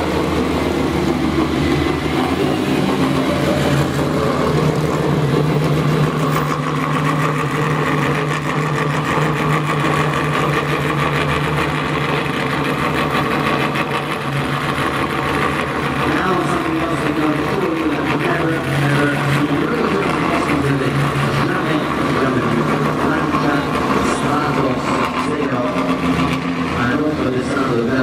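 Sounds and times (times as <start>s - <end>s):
car engine at low revs: 0.0s - 28.0s.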